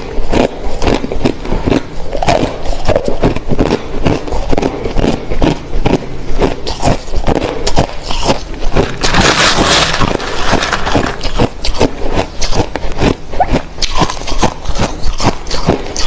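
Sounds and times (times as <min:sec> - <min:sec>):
crushed ice crunching between teeth: 0:00.2 - 0:13.2.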